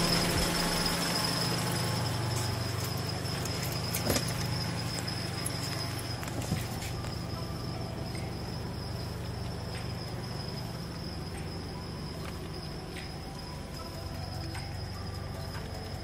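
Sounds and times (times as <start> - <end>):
car engine idling: 0.0 - 16.0
thin high whine: 0.0 - 16.0.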